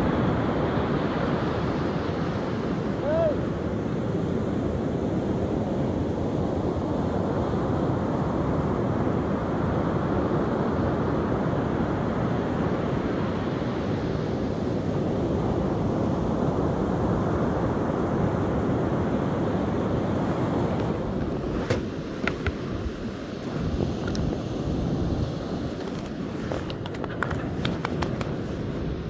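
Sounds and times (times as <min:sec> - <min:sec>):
ocean surf on beach: 0:00.0 - 0:29.0
wind noise on microphone: 0:00.0 - 0:29.0.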